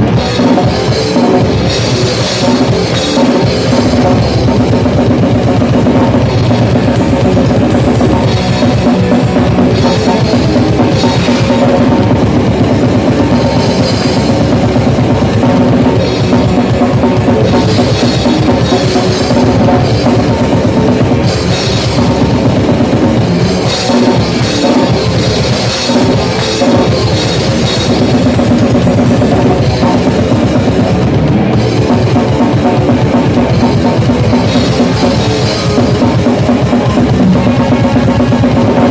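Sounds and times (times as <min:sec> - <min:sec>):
drum kit: 0:00.0 - 0:38.9
rock band playing: 0:00.0 - 0:38.9.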